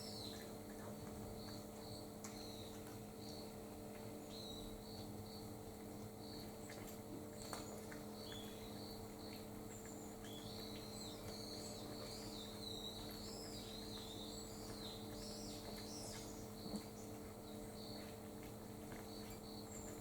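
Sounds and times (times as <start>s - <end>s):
low electrical hum: 0.0s - 20.0s
small birds chirping: 0.0s - 20.0s.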